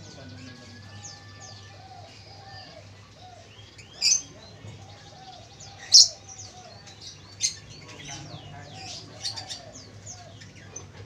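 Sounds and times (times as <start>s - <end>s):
dove cooing: 0.0s - 7.0s, 8.0s - 11.0s
small birds chirping: 0.0s - 11.0s.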